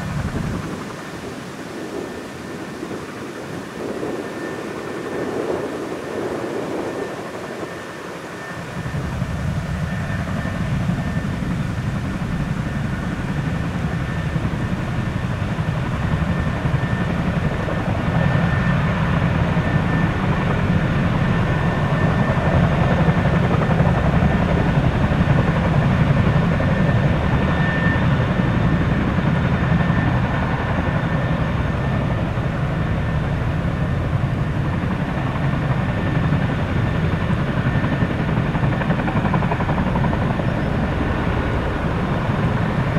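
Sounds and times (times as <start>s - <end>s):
helicopter rotor beat: 0.0s - 42.9s
high turbine whine: 0.0s - 42.9s.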